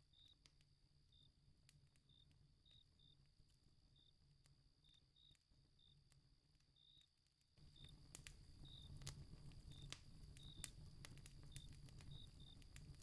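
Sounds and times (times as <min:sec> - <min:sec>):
crickets chirping: 0:00.0 - 0:06.1, 0:06.8 - 0:13.0.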